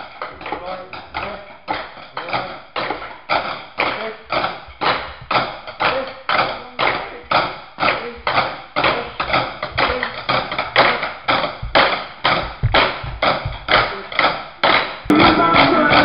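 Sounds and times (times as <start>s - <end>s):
drumsticks striking practice pad: 0.0s - 16.0s.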